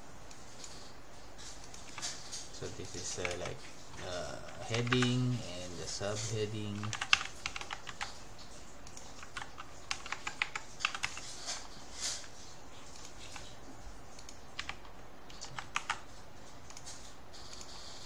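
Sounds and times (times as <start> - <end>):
computer keyboard typing: 0.3 - 18.0.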